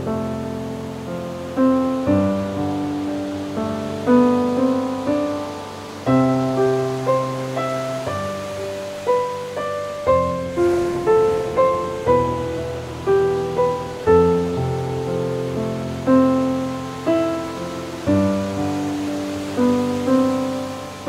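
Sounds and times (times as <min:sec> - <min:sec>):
gentle solo piano: 0:00.0 - 0:21.0
ocean waves hissing: 0:00.0 - 0:21.0.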